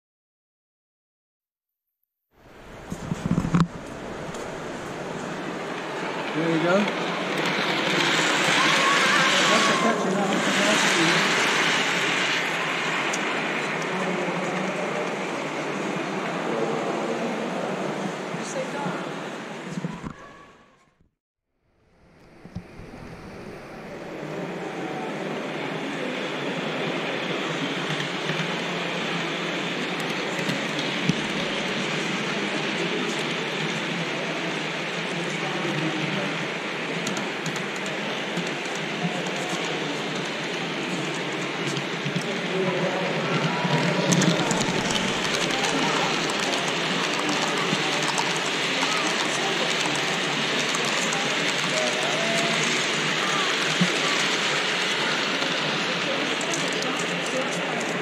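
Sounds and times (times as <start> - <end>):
model train rumbling on track: 2.4 - 20.2, 22.0 - 58.0
crowd talking in echoing hall: 2.4 - 21.0, 22.1 - 58.0.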